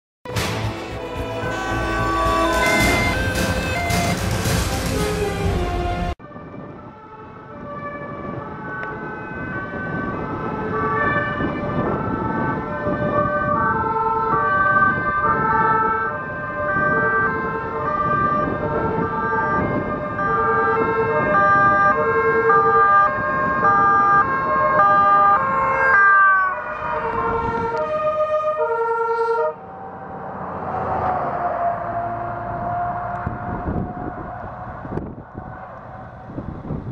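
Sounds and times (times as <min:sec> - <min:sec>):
vehicle engine and tyre noise: 0:00.3 - 0:36.9
two-tone sirens: 0:01.0 - 0:36.9.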